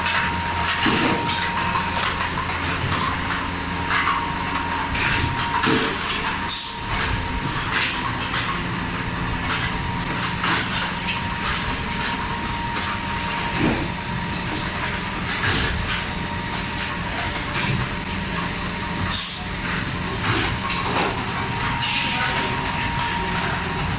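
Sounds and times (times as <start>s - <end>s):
machine humming: 0.0s - 23.9s.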